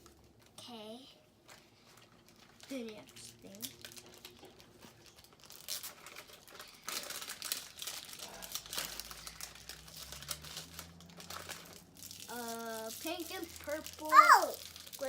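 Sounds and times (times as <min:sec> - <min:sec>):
plastic packaging crinkling and tearing: 0:01.5 - 0:15.0.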